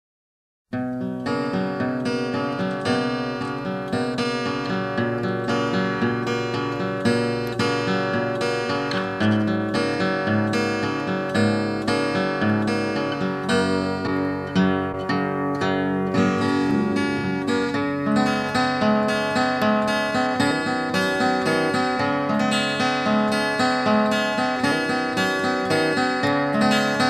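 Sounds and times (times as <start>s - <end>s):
fingerpicked acoustic guitar: 0.7s - 27.0s.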